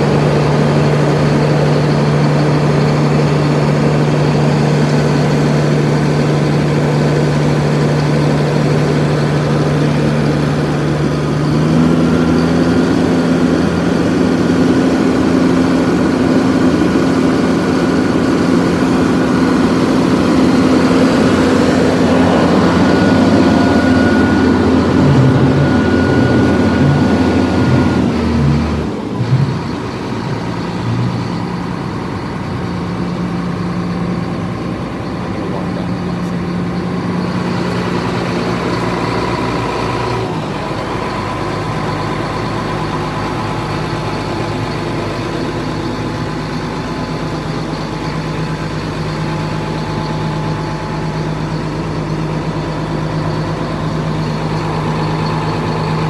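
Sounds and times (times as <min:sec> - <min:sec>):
diesel truck engine running: 0:00.0 - 0:56.0
high engine whine: 0:00.0 - 0:56.0.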